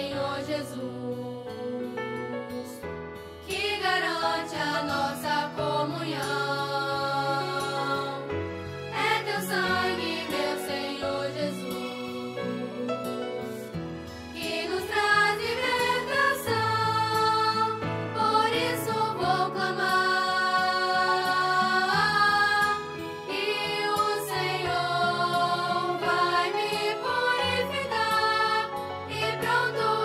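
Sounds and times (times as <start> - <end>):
worship song singing: 0.0 - 2.0, 3.5 - 13.6, 14.3 - 30.0.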